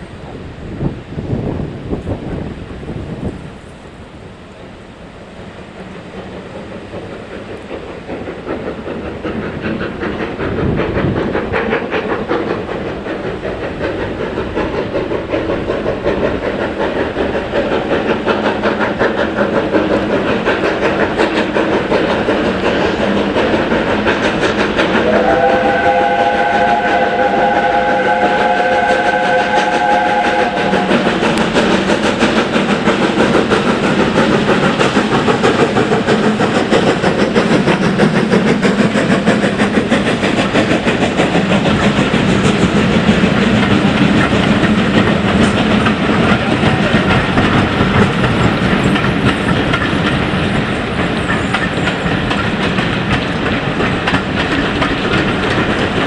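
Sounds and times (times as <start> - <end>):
steam locomotive exhaust beats: 0.0 - 56.0
coaches rumbling over rail joints: 5.5 - 56.0.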